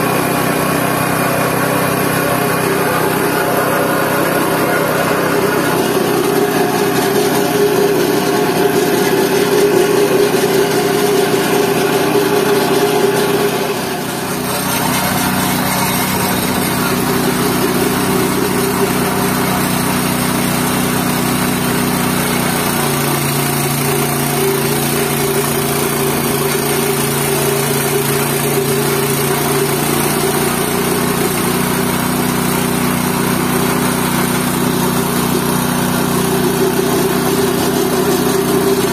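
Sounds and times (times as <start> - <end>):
pulverizer machine motor hum: 0.0 - 38.9.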